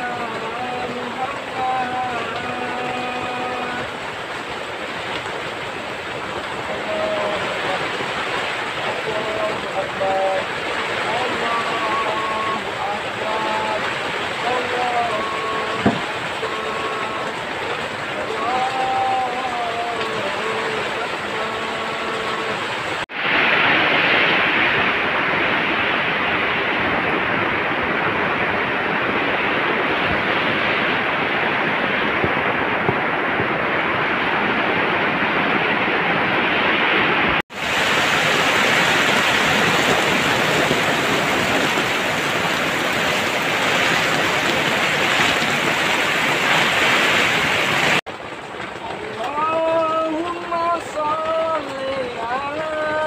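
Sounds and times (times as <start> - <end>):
heavy rain drumming on tarp roof: 0.0 - 53.0
water running off roof: 0.0 - 53.0.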